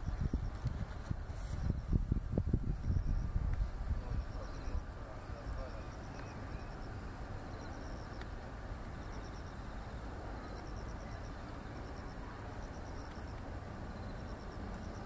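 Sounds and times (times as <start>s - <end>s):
crickets chirping: 0.0s - 0.7s, 1.4s - 15.0s.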